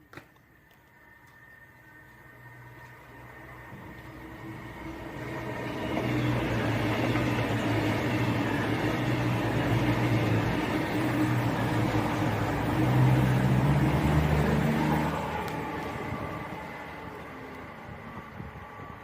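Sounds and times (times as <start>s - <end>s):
diesel engines droning: 0.0s - 19.0s
wheel and rail noise: 0.0s - 19.0s.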